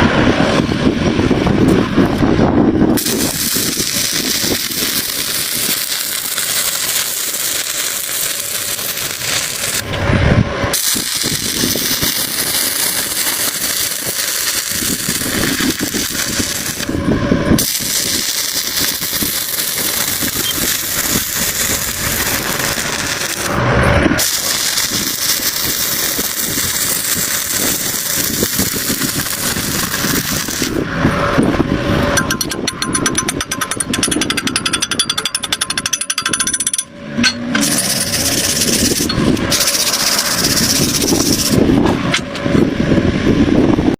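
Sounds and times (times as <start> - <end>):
welding arc crackling: 2.9 - 30.9, 31.9 - 42.7.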